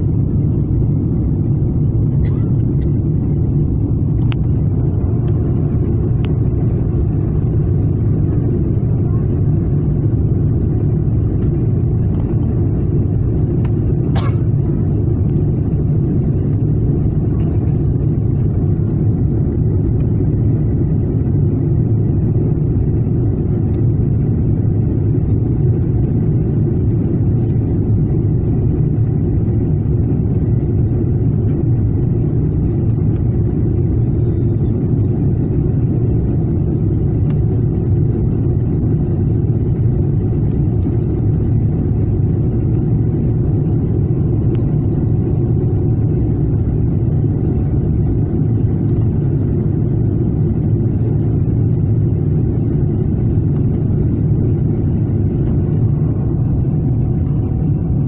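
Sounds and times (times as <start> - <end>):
jet engine cabin drone: 0.0 - 58.0.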